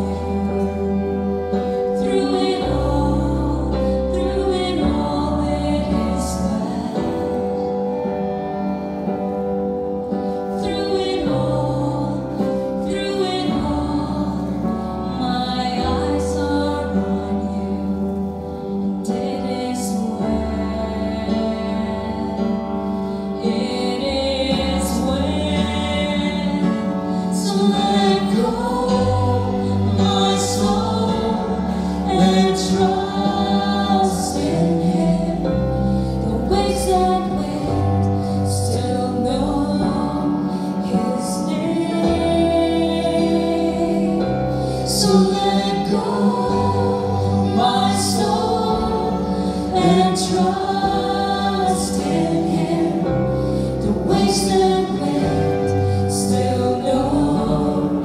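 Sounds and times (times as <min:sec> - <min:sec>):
voices singing together: 0:00.0 - 0:08.3, 0:10.4 - 0:58.0
worship band playing: 0:00.0 - 0:58.0.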